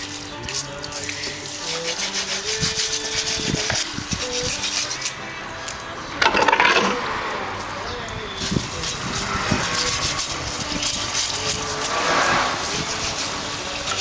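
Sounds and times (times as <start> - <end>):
quiet background music: 0.0 - 14.0
scratchy rubbing noise: 0.0 - 14.0
loud noisy burst: 0.9 - 14.0.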